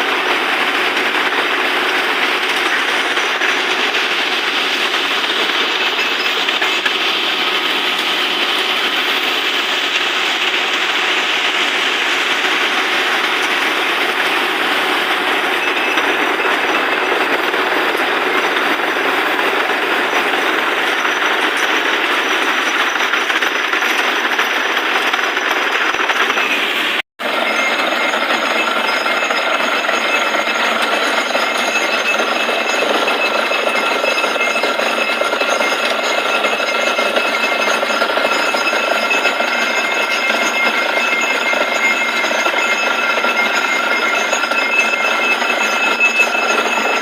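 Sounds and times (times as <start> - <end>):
drilling rig rattle: 0.0 - 47.0.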